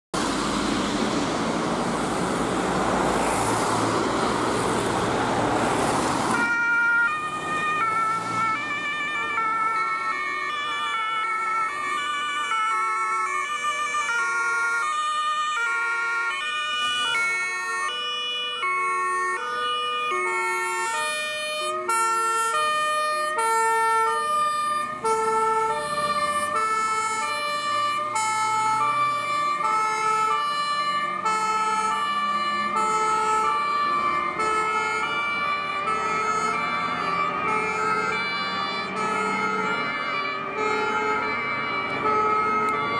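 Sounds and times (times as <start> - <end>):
two-tone fire truck sirens: 0.1 - 42.9
vehicle engines driving past: 0.2 - 42.9.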